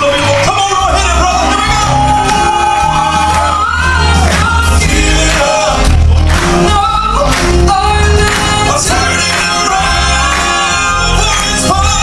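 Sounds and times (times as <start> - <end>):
bass: 0.0 - 12.0
male vocal quartet singing gospel: 0.0 - 12.0
piano: 0.0 - 12.0.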